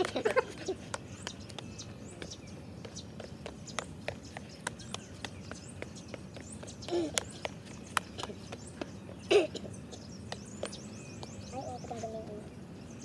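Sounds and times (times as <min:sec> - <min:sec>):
footsteps on concrete: 0:00.0 - 0:12.1.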